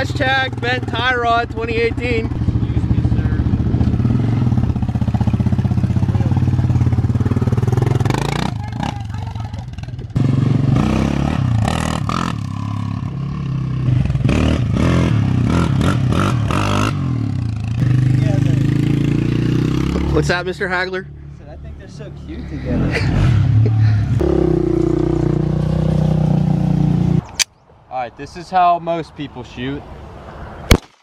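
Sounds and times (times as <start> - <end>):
quad engine revving: 0.0 - 20.6, 22.4 - 27.2.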